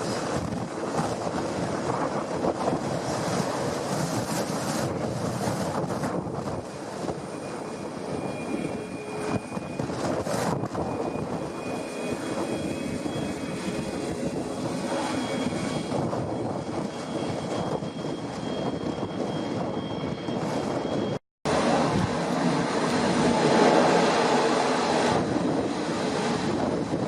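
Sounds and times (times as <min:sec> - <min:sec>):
jet engine whining tones: 0:00.0 - 0:27.0
jet engines running: 0:00.0 - 0:27.0
wind buffeting microphone: 0:00.0 - 0:27.0.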